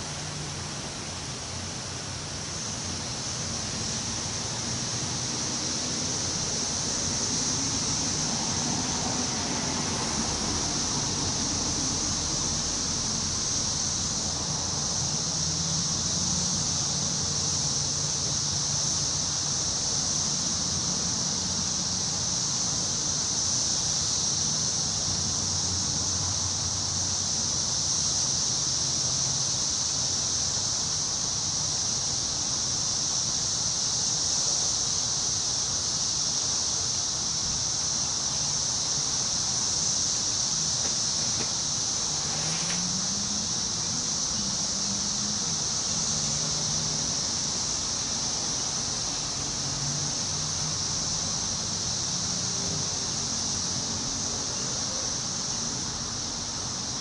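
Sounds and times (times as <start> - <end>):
high-pitched insect chorus: 0.0 - 57.0
wind in trees: 0.0 - 57.0.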